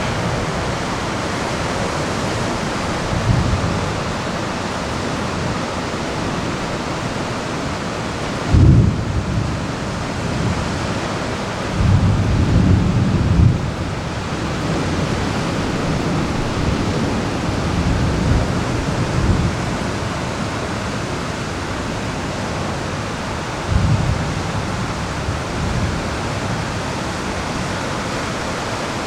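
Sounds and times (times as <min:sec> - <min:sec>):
thunder rumbling: 0:00.0 - 0:20.8, 0:23.1 - 0:27.7
heavy rain hissing: 0:00.0 - 0:29.0.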